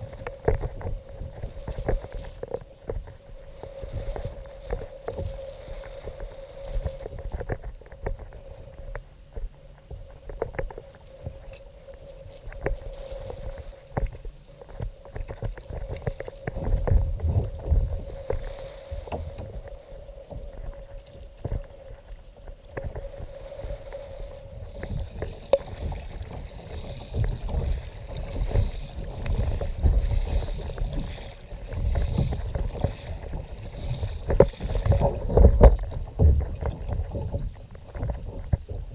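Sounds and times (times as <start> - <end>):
faint steady hum: 0.0 - 38.9
water lapping and splashing: 0.0 - 38.9.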